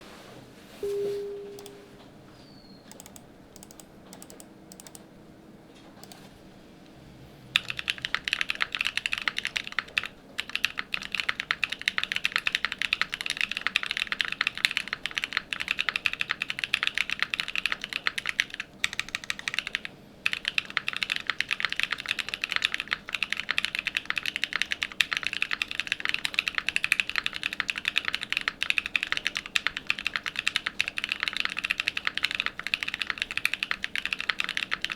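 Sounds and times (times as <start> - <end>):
typing on mechanical keyboard: 2.9 - 5.0, 7.5 - 34.9.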